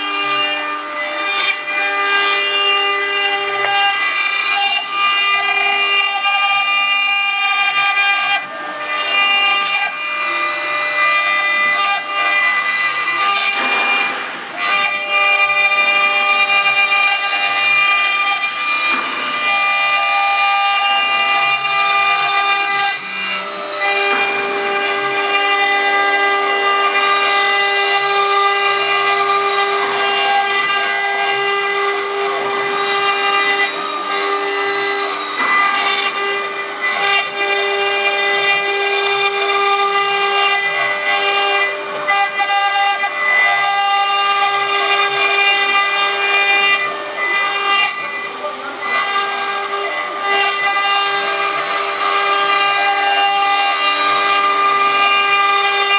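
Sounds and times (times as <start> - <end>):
router spindle whine: 0.0 - 55.9.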